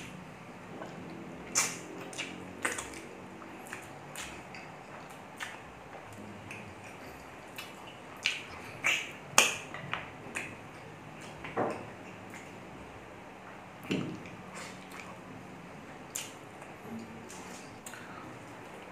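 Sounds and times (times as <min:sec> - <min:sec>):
lip smacks and chewing: 0:00.0 - 0:12.7, 0:13.4 - 0:15.3, 0:15.9 - 0:18.2.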